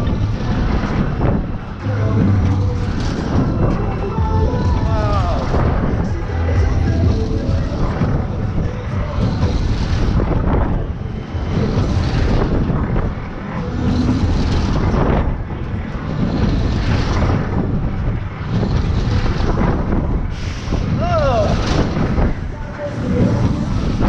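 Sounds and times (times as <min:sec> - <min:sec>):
fairground ride rumbling: 0:00.0 - 0:24.0
wind on microphone: 0:00.0 - 0:24.0.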